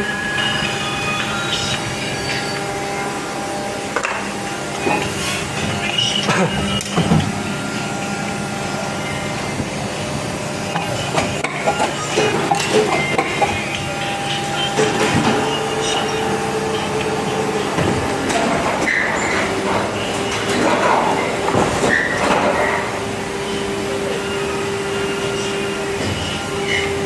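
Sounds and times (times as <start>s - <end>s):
moulding machine hum and whine: 0.0s - 27.0s.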